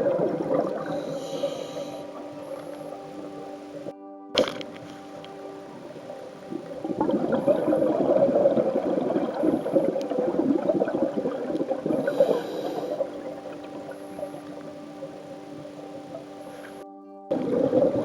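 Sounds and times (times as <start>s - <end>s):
underwater bubbles rushing: 0.0s - 18.0s.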